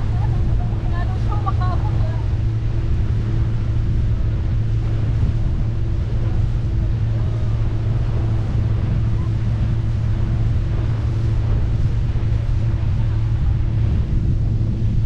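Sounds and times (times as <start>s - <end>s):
motorboat engine drone: 0.0s - 15.0s
wind on microphone: 0.0s - 15.0s.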